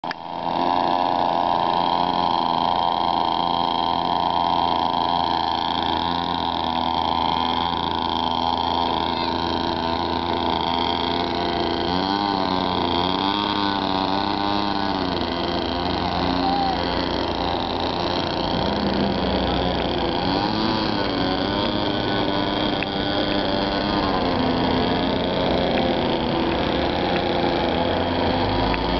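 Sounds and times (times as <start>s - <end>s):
outboard motor idling: 0.0s - 28.9s.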